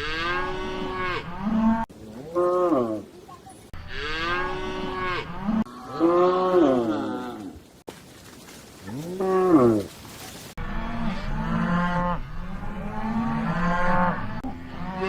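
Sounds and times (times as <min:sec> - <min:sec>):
cows mooing: 0:00.0 - 0:03.2, 0:03.8 - 0:07.6, 0:08.8 - 0:09.9, 0:10.6 - 0:15.0.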